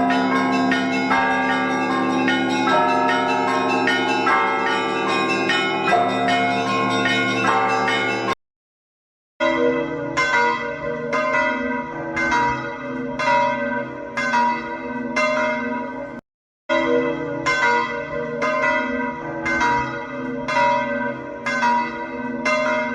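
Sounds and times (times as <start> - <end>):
church bells ringing: 0.0 - 8.4, 9.4 - 22.9.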